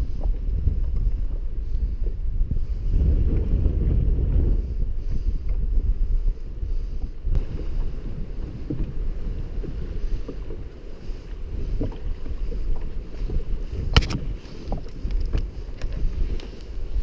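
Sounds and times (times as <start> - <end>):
water moving around kayak: 0.0 - 17.0
wind buffeting microphone: 0.0 - 17.0.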